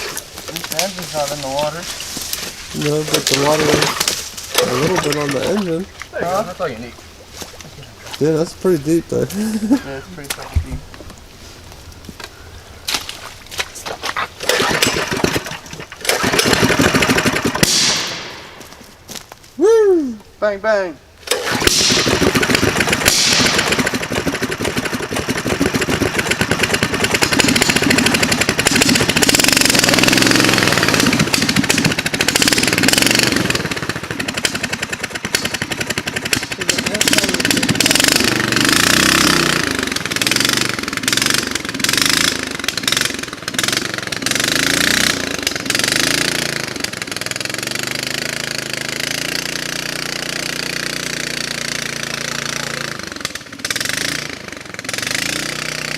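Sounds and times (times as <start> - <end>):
engine revving: 0.0 - 6.8, 14.4 - 18.6, 21.2 - 55.9.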